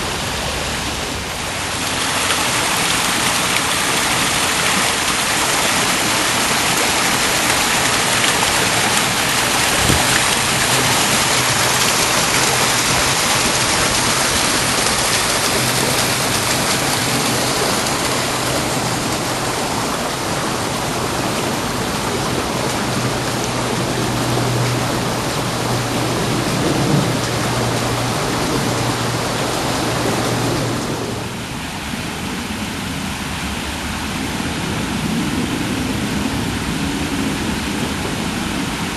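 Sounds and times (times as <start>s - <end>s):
waterfall splashing into pool: 0.0s - 32.8s.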